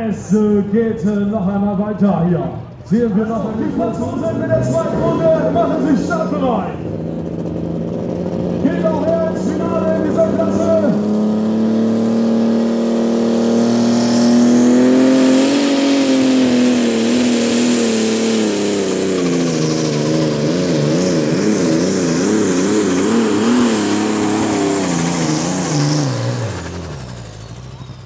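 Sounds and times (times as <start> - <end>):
pulling tractor engine at full power: 0.0 - 28.0.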